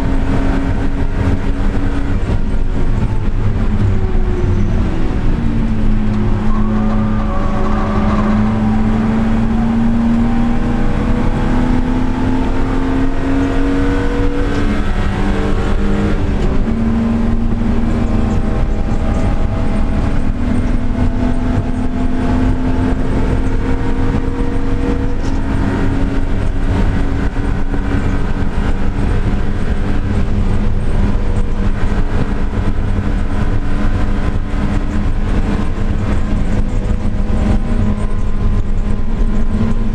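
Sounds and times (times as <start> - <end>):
car engine and exhaust at speed: 0.0 - 39.9.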